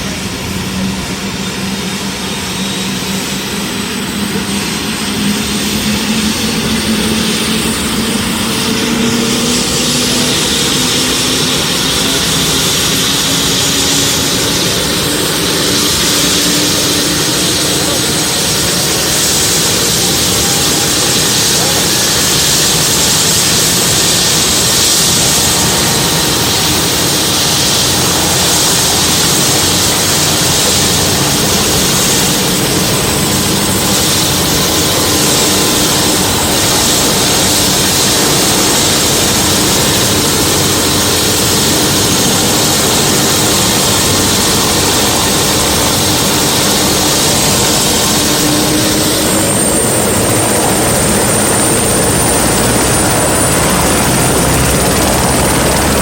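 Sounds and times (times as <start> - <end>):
helicopter engine and rotor: 0.0 - 56.0
high whine: 0.0 - 56.0.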